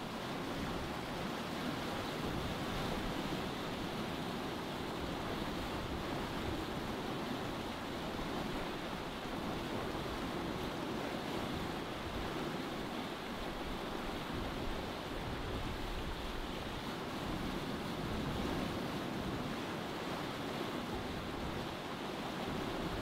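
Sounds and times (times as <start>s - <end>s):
sea water rushing: 0.0s - 23.0s
wind: 0.0s - 23.0s.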